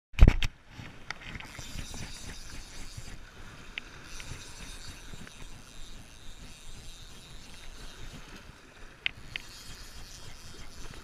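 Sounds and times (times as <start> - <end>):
faint clicks: 1.0 - 11.0.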